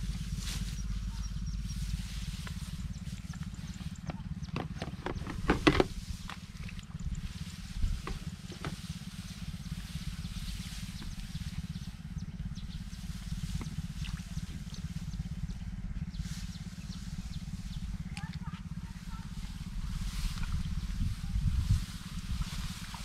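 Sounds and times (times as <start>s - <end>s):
low rumble: 0.0s - 23.0s
rice plants rustling: 0.0s - 23.0s.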